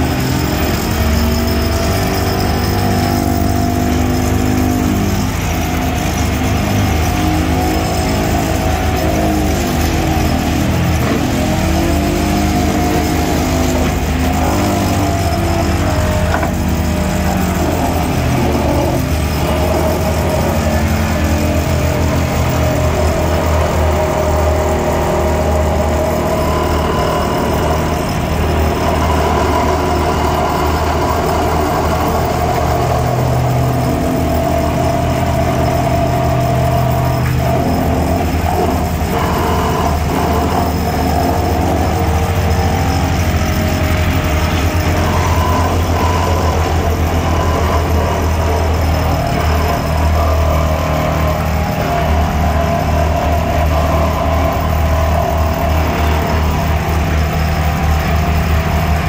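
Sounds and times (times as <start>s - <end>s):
vibratory pile hammer humming: 0.0s - 59.0s.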